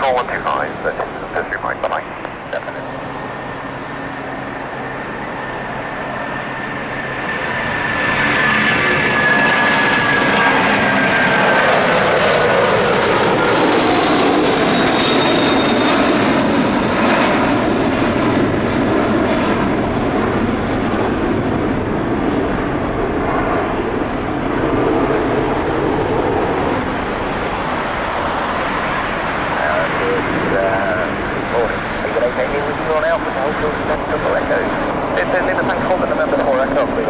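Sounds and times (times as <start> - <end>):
high jet whine: 0.0 - 37.0
jet engines roaring: 0.0 - 37.0.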